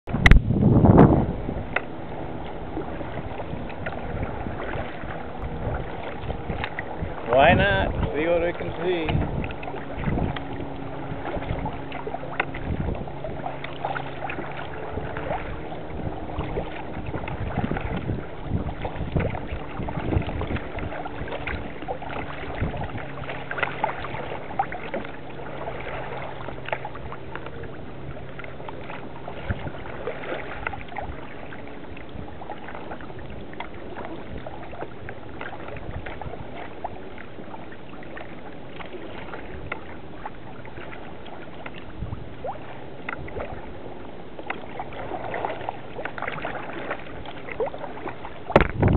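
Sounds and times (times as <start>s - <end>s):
water splashing and lapping: 0.0s - 48.9s
paddle strokes in water: 0.1s - 48.9s.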